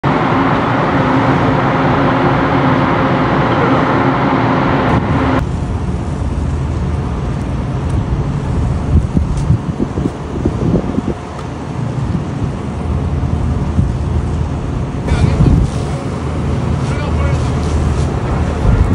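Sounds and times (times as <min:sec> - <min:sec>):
boat engine humming: 0:00.0 - 0:18.9.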